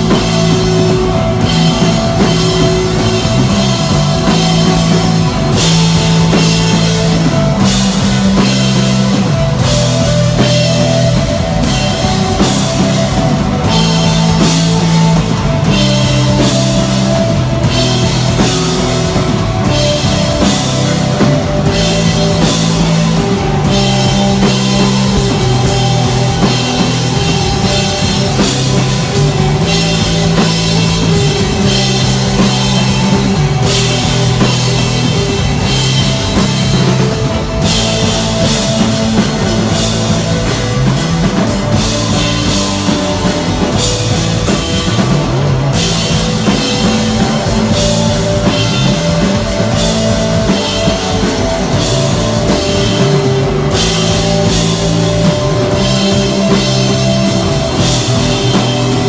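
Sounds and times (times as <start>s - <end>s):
bass holding low notes: 0.0s - 59.0s
drum kit with cymbal wash: 0.0s - 59.0s
electric guitar: 0.0s - 59.0s.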